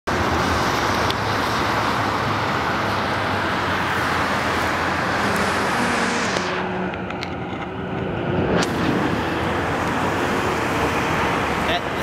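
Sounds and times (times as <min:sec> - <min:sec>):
tyre hiss of passing cars: 0:00.2 - 0:06.9, 0:08.6 - 0:12.0.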